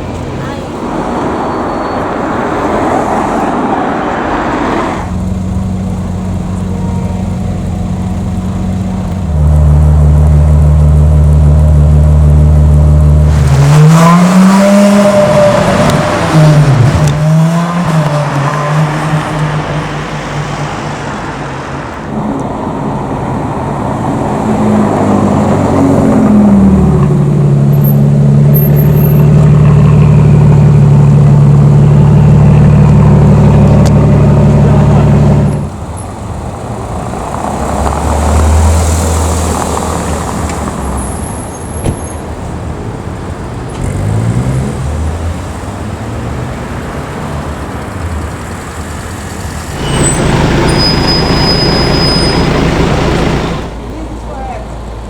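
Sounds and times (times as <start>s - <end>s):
car engine revving: 0.0s - 53.9s
street traffic: 0.0s - 55.0s.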